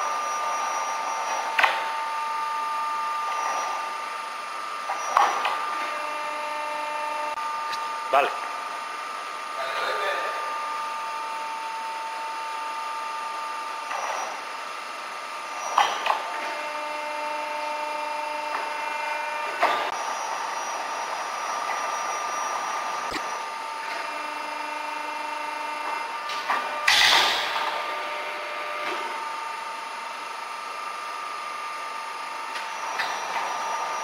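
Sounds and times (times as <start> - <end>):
steel-working machine whining: 0.0 - 34.0.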